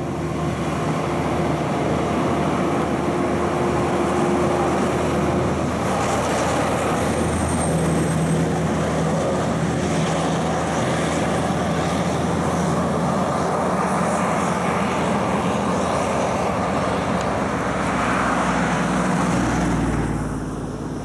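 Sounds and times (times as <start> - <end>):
traffic passing: 0.0 - 21.0
truck engine drone: 0.0 - 21.0
tyre road noise: 0.0 - 21.0.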